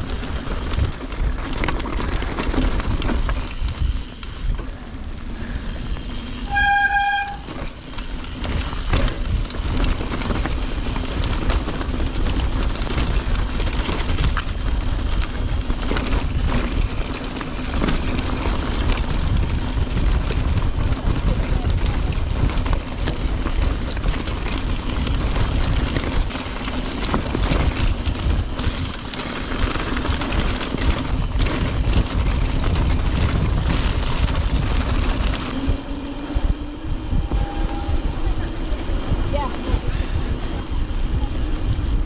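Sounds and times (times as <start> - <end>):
bike tyres rumbling over rocks: 0.0 - 42.0.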